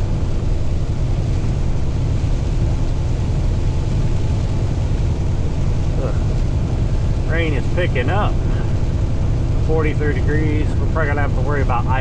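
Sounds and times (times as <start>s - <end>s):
road noise: 0.0s - 12.0s
truck engine rumbling: 0.0s - 12.0s.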